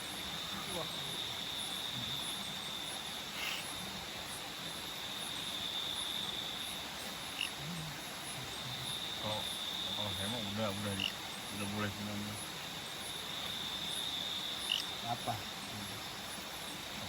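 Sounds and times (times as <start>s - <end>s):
insect trill: 0.0s - 17.0s
pulsing insect chirp: 0.0s - 17.0s.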